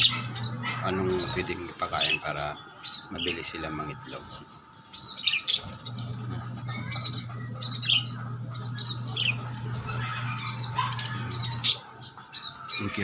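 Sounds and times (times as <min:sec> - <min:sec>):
lovebirds chirping and squawking: 0:00.0 - 0:13.0
steady low hum: 0:00.0 - 0:13.0.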